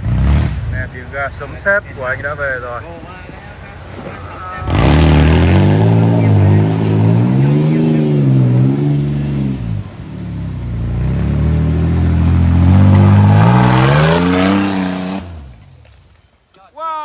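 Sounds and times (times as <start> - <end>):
off-road vehicle engine revving: 0.0 - 15.8.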